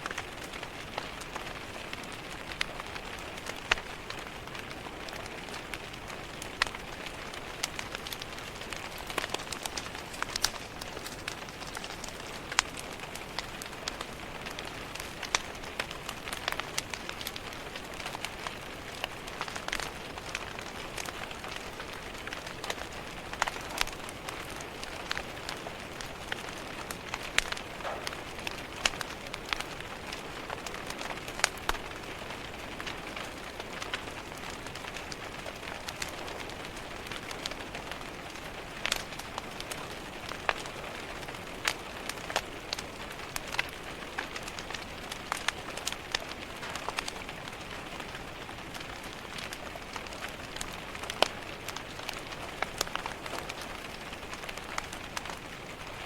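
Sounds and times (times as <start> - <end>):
rain on a window: 0.0 - 56.0
wood fire crackling: 0.0 - 56.0.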